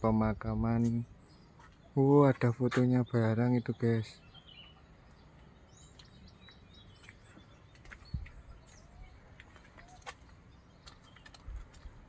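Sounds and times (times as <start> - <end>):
bird chirps and ticks: 0.0 - 12.0
faint outdoor ambience: 0.0 - 12.0.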